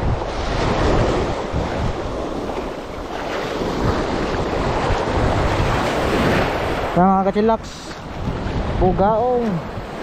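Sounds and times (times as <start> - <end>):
sea waves: 0.0 - 10.0
wind buffeting microphone: 0.0 - 10.0.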